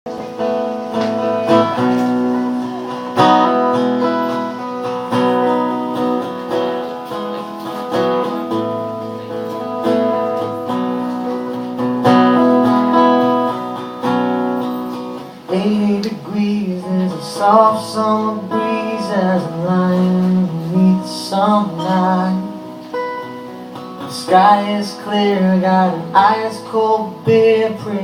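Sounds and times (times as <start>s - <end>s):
acoustic guitar strumming: 0.1s - 28.0s.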